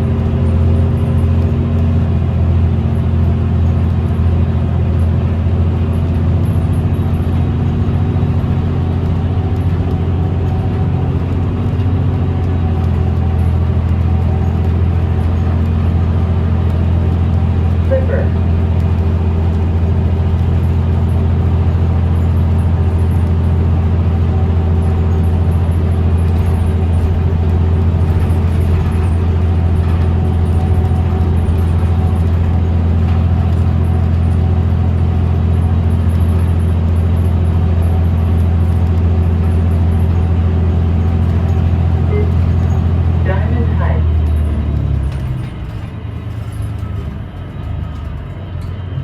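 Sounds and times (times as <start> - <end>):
bus interior drone: 0.0 - 49.0.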